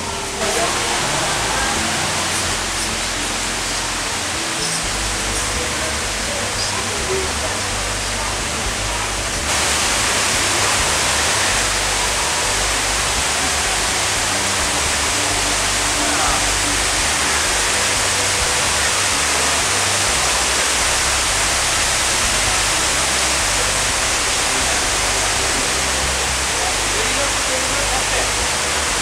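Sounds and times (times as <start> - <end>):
rushing falling water: 0.0 - 29.0.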